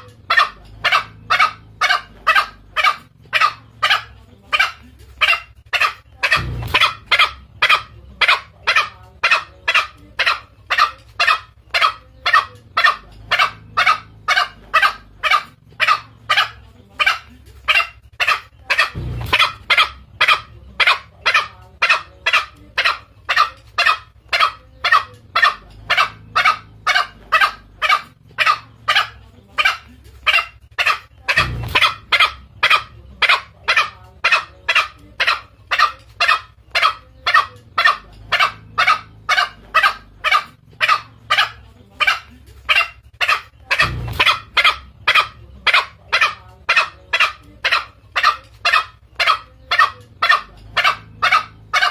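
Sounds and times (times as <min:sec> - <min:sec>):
junglefowl calls: 0:00.0 - 0:51.9.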